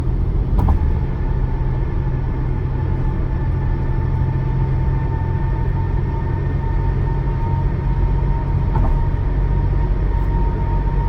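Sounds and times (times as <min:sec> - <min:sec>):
hum from grooved road: 0:00.0 - 0:11.0
tyre road rumble: 0:00.0 - 0:11.0.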